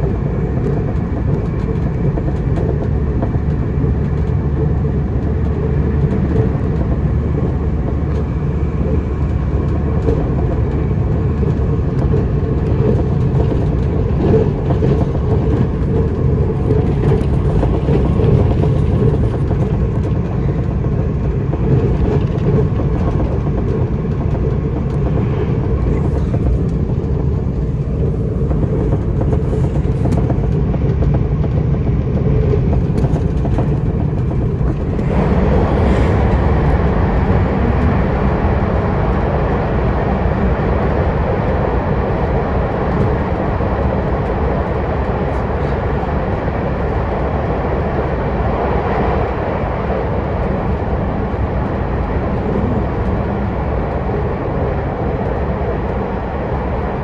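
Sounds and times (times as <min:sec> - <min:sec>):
train running on rails: 0:00.0 - 0:57.0.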